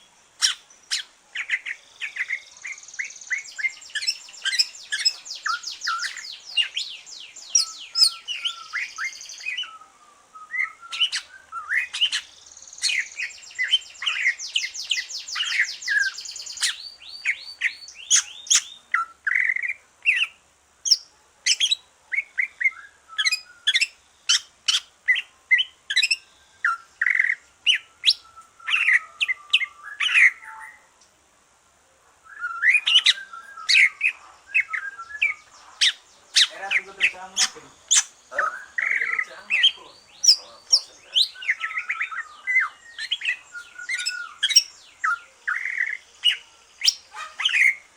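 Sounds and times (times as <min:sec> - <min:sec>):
bird singing trills and whistles: 0:00.0 - 0:30.9, 0:32.2 - 0:47.9.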